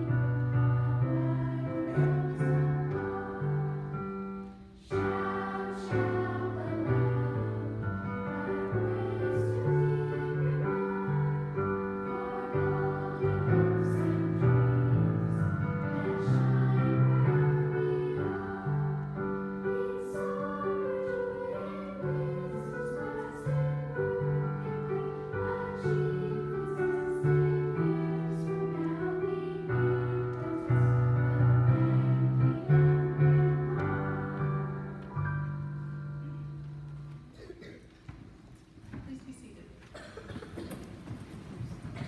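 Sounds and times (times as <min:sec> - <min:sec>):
piano accompaniment: 0:00.0 - 0:37.6
girls choir singing slow song: 0:00.0 - 0:37.8.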